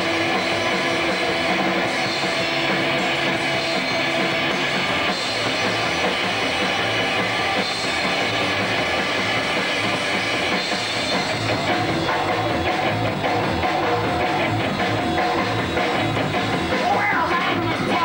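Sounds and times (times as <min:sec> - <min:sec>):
drum kit: 0:00.0 - 0:18.0
rock band playing live: 0:00.0 - 0:18.0.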